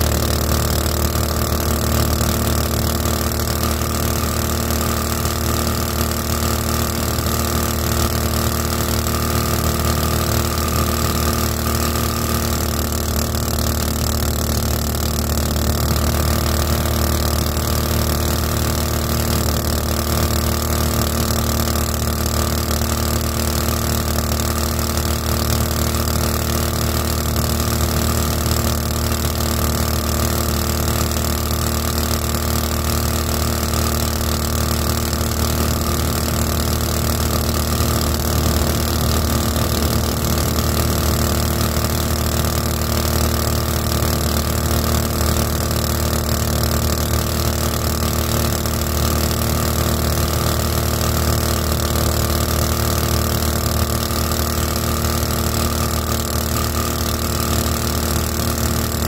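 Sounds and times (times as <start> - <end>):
small boat engine running: 0.0 - 59.0.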